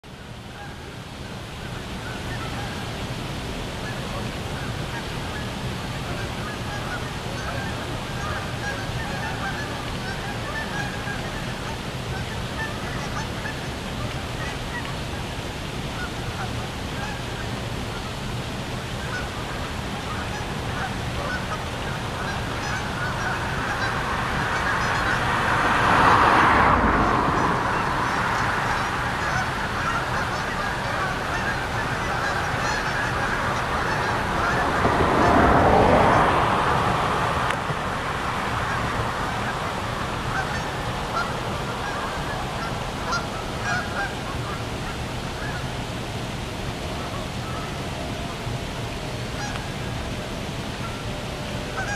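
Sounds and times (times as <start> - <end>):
steady rushing noise: 0.0 - 51.9
geese honking: 0.6 - 0.8, 1.7 - 2.9, 6.1 - 15.3, 15.9 - 18.2, 18.8 - 45.7, 47.0 - 47.8, 49.3 - 50.0, 50.7 - 51.9.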